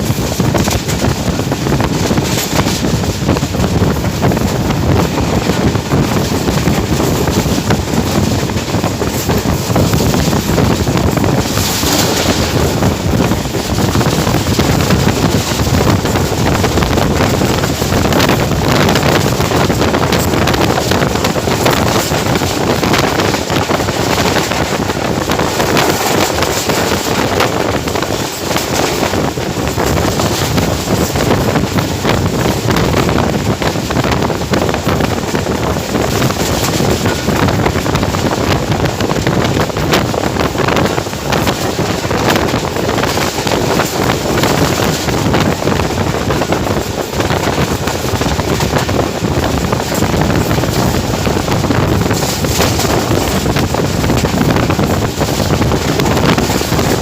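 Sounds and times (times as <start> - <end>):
train wheels rumbling on rails: 0.0 - 57.0
wind buffeting microphone: 0.0 - 57.0.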